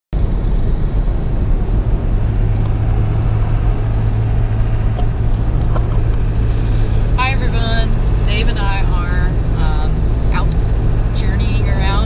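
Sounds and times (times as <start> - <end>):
truck engine and road noise: 0.1 - 12.0.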